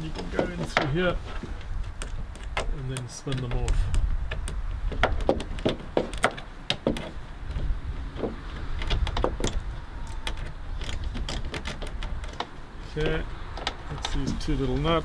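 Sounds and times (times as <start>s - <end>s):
trim rattling: 0.0s - 15.0s.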